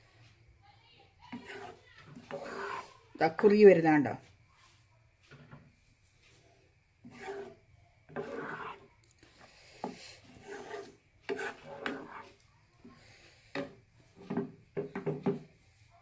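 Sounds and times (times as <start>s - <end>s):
spatula scraping a pan: 1.1s - 3.6s, 4.2s - 16.0s.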